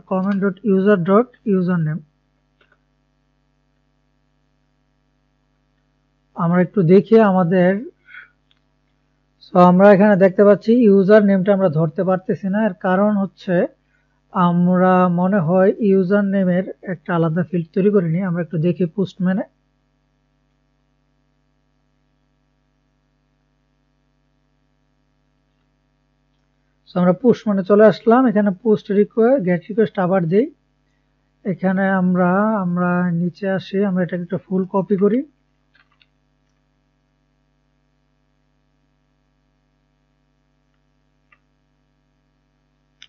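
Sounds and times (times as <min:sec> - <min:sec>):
faint electrical hum: 0:00.0 - 0:43.0.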